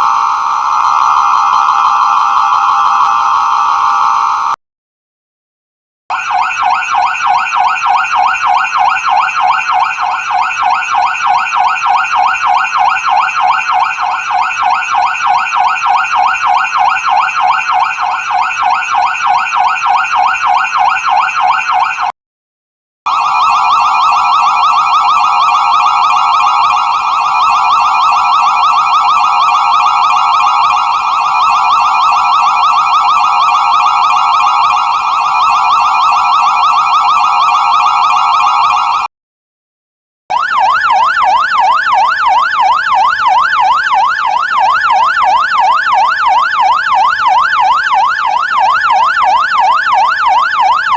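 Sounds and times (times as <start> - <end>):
fire truck siren yelping: 0.0 - 4.6, 6.1 - 22.1, 23.1 - 39.1, 40.3 - 50.9
siren warbling: 0.0 - 4.6, 6.1 - 22.1, 23.1 - 39.1, 40.3 - 50.9.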